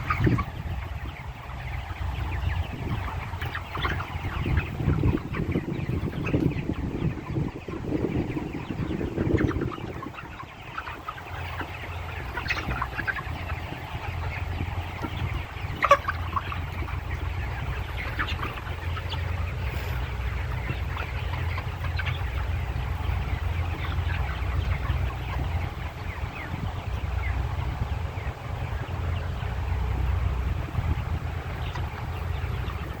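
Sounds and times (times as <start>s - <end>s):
chickens clucking: 0.0s - 33.0s
steady low rumble: 0.0s - 33.0s.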